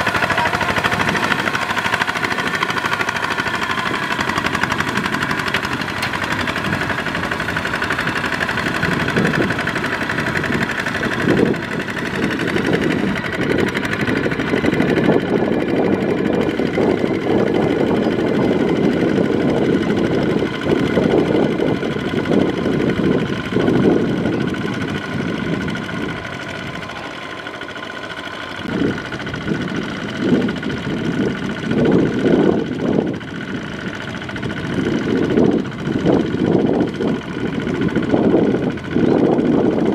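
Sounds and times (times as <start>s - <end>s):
diesel tractor engine under load: 0.0s - 39.9s
wheels churning through mud: 0.0s - 39.9s.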